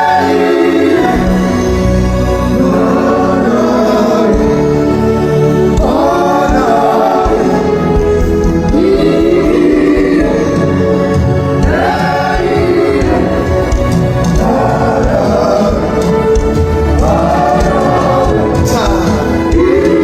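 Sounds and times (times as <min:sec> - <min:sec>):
choir singing gospel: 0:00.0 - 0:20.0.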